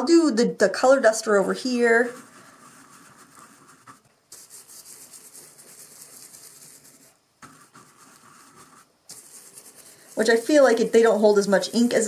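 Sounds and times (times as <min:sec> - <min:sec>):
brush scrubbing on paper: 0:01.3 - 0:12.0.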